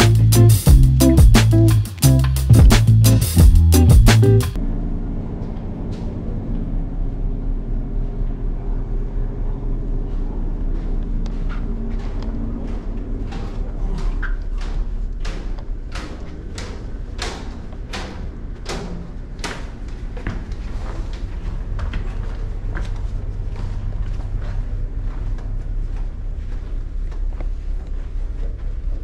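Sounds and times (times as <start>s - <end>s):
low machinery hum: 2.1s - 29.0s.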